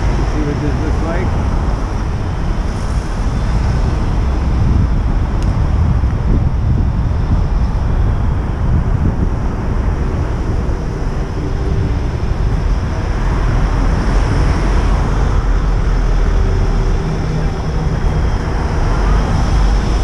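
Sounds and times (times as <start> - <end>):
city street traffic: 0.0 - 20.0
wind rumbling on microphone: 0.0 - 20.0.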